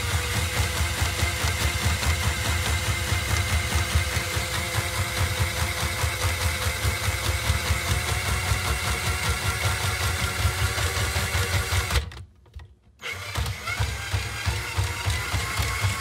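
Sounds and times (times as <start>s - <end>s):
drain auger motor running: 0.0s - 12.1s, 13.0s - 16.0s.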